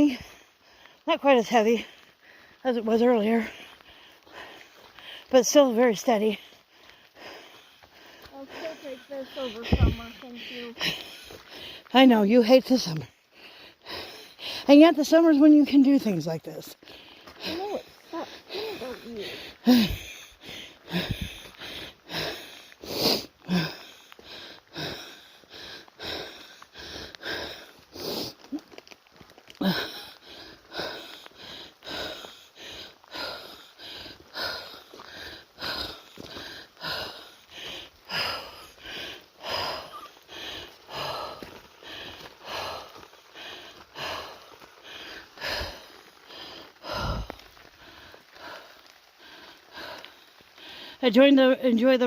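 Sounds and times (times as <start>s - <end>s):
person breathing hard: 0.0s - 1.0s, 1.8s - 2.6s, 3.3s - 5.4s, 6.4s - 11.9s, 13.2s - 14.7s, 16.8s - 51.0s
steady rain: 0.0s - 52.0s.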